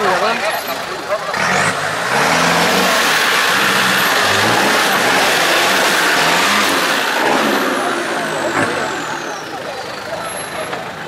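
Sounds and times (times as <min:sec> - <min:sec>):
truck engine revving: 0:00.0 - 0:11.0
tyres spinning in dirt: 0:00.1 - 0:11.0.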